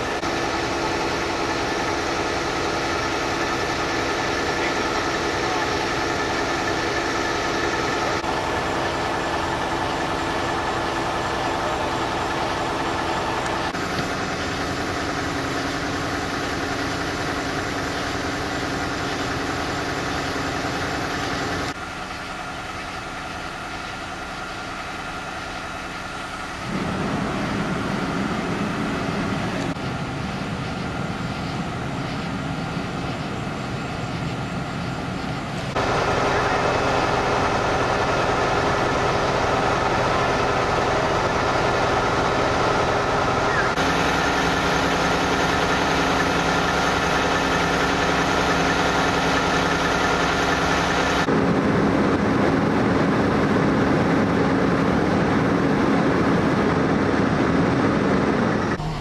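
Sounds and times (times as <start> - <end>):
vehicle engines idling: 0.0 - 59.0.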